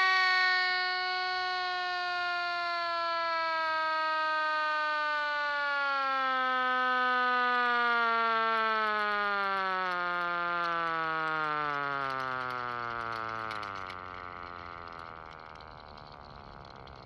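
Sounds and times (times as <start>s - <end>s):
air raid siren winding down: 0.0s - 17.0s.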